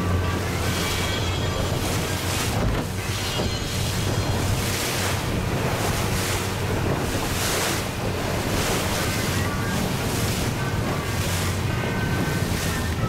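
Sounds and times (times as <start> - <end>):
boat motor hum: 0.0 - 13.0
water rushing past hull: 0.0 - 13.0
wind buffeting microphone: 0.0 - 13.0.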